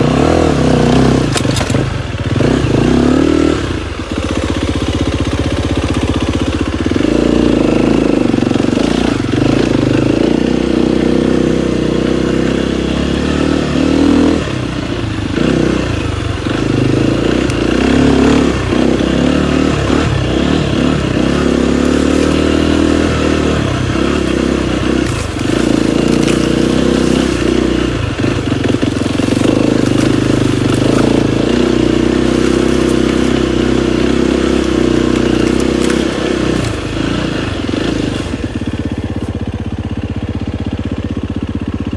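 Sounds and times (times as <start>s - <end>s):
dirt bike engine revving: 0.0s - 39.6s.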